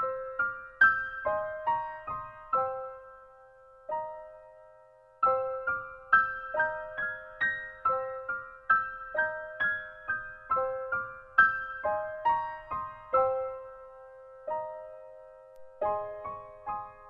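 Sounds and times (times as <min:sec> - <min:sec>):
soft piano notes: 0:00.0 - 0:17.0.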